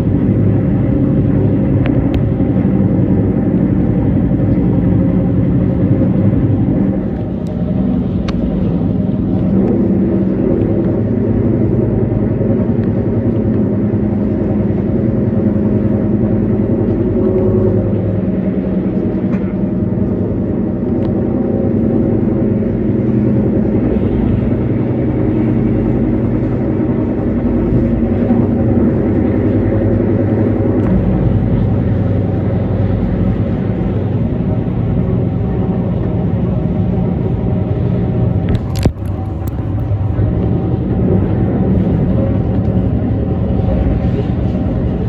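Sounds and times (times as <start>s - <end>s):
steady hum: 0.0s - 45.0s
train wheels rumbling on rails: 0.0s - 45.0s.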